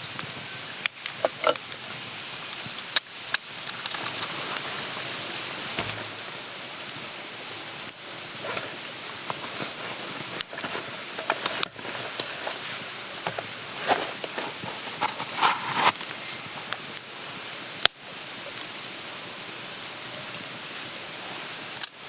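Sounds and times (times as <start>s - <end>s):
campfire hissing: 0.0s - 22.0s
fire crackling and popping: 0.0s - 22.0s.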